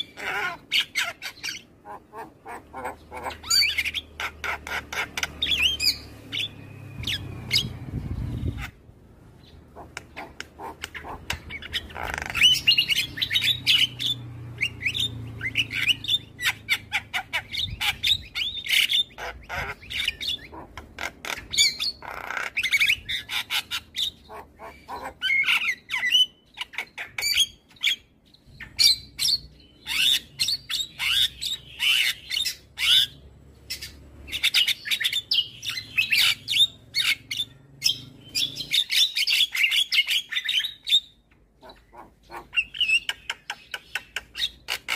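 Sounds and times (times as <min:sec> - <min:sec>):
myna bird chattering song: 0:00.0 - 0:44.9.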